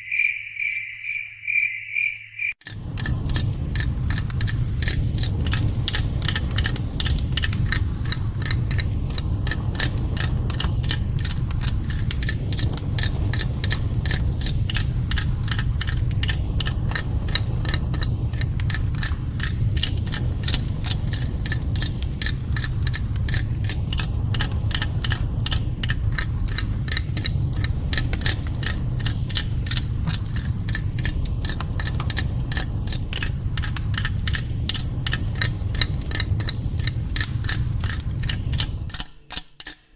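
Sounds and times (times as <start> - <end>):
continuous low rumble: 2.6 - 39.8
rapid clicking and ticking: 2.6 - 39.9.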